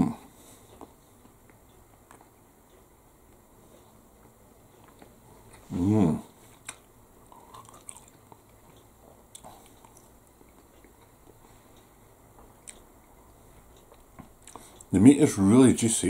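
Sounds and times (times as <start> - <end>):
faint chewing: 0.4 - 14.9.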